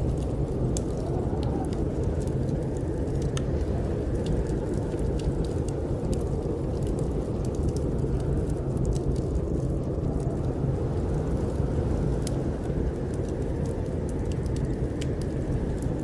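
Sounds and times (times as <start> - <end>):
snowstorm wind roaring: 0.0 - 16.0
wood fire crackling: 0.0 - 16.0.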